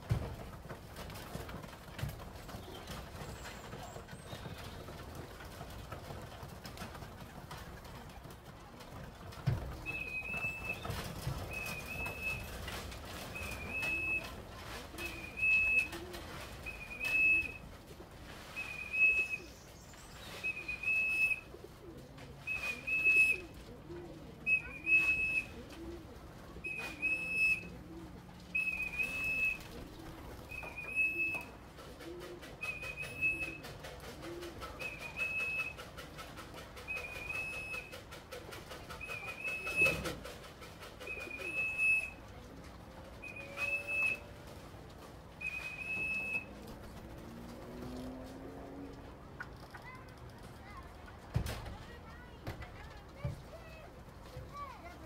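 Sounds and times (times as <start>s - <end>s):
pigeons cooing: 0.2s - 49.4s.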